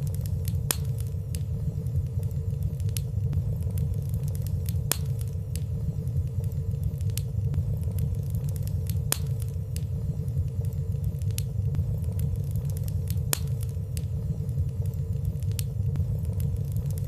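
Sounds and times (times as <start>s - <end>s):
sharp snap of fire: 0.0s - 17.0s
wood fire crackling: 0.0s - 17.0s.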